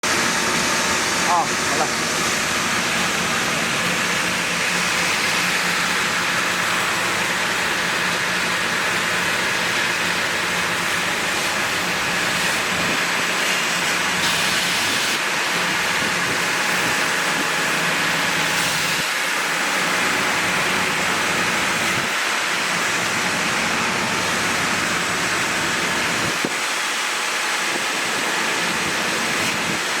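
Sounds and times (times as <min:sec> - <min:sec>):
wood sanding machine running: 0:00.0 - 0:30.0.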